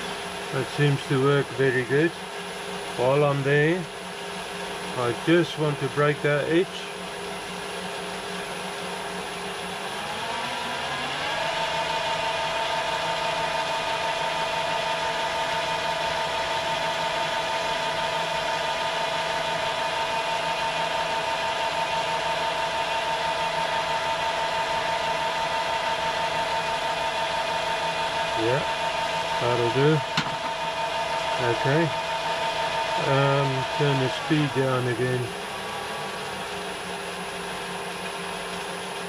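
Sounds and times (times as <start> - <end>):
metal lathe motor whine: 0.0 - 39.0.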